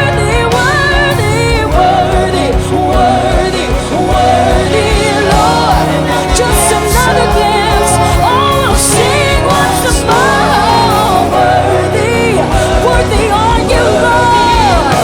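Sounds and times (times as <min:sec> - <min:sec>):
person singing: 0:00.0 - 0:15.0
steady kick drum beat: 0:00.0 - 0:15.0
worship band playing slow song: 0:00.0 - 0:15.0.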